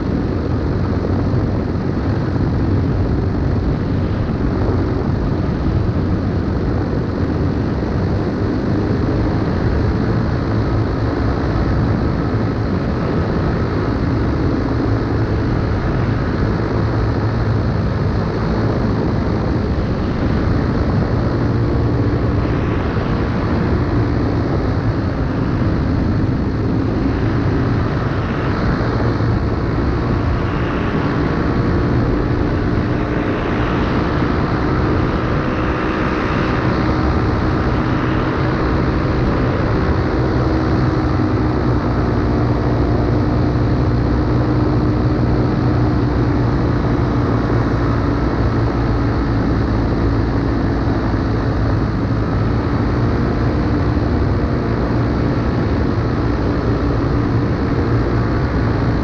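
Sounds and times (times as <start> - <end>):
paramotor engine drone: 0.0 - 59.0
wind noise: 0.0 - 59.0.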